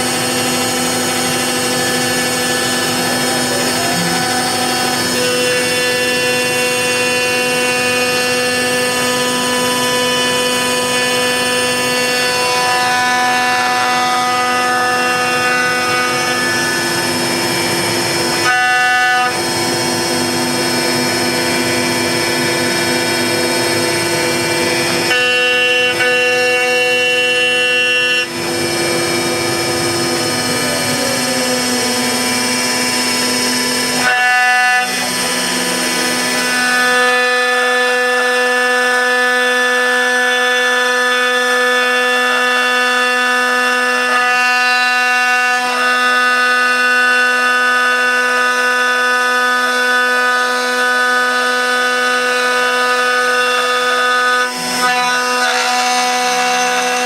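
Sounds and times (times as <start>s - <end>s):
router spindle whining through wood: 0.0s - 57.0s.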